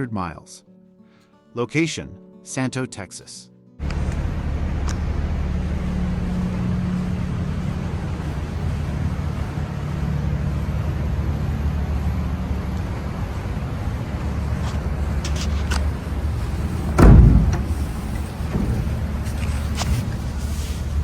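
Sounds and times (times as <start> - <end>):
race car engine idling: 3.8 - 21.0.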